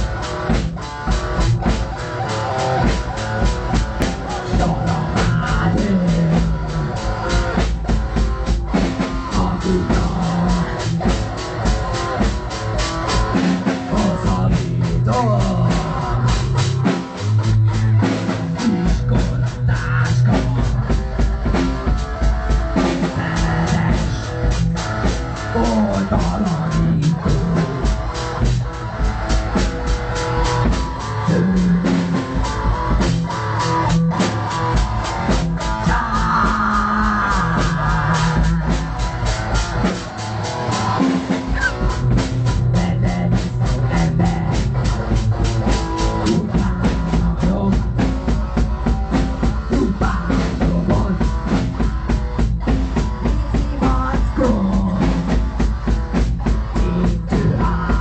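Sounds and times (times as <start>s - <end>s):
bass: 0.0s - 58.0s
drum kit pounding: 0.0s - 58.0s
guitar: 0.0s - 58.0s.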